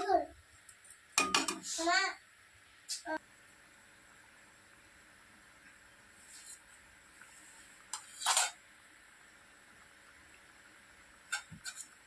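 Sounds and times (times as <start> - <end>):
faint steady hiss of simmering: 0.0 - 12.0.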